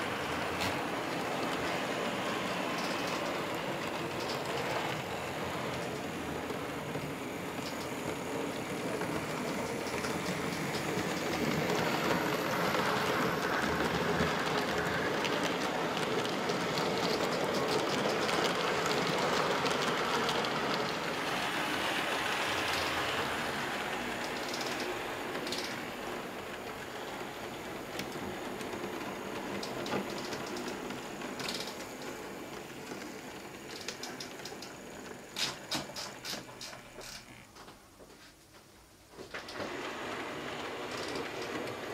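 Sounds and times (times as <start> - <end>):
model train wheels rattling on track: 0.0 - 37.3, 39.3 - 41.9.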